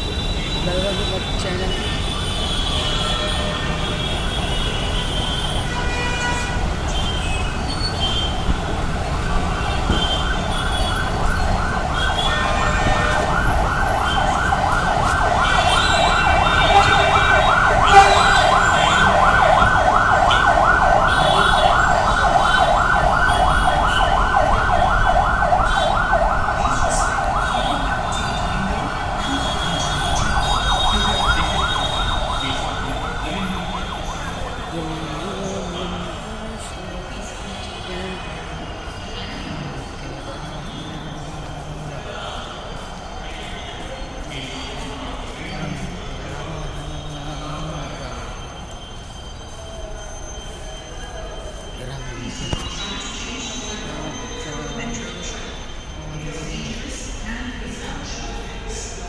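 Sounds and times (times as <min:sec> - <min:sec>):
emergency siren yelping: 0:00.0 - 0:59.0
traffic noise: 0:00.0 - 0:59.0.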